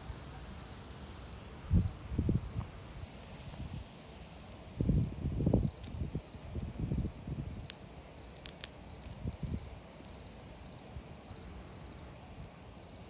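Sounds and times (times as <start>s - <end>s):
low rumble from fire: 0.0s - 12.6s
campfire crackling pops: 0.0s - 13.0s
crickets chirping: 0.0s - 13.0s.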